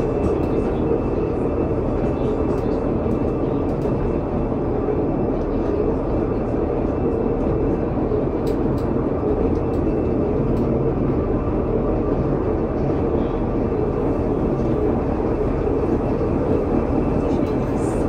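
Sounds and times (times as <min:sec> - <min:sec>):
cog railcar running noise: 0:00.0 - 0:18.0.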